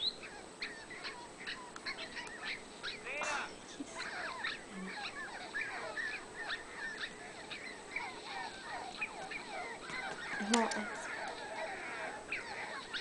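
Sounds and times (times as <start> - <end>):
flock of birds chattering: 0.0 - 13.0.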